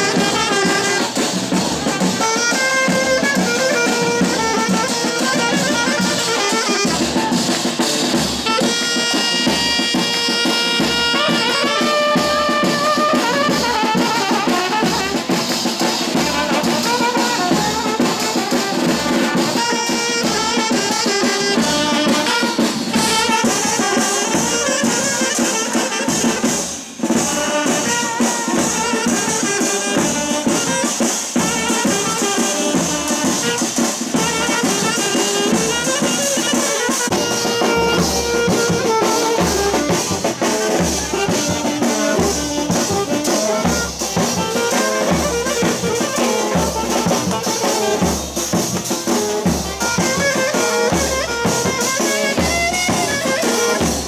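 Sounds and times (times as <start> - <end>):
bass drum and cymbal beat: 0.0 - 54.0
brass band playing: 0.0 - 54.0.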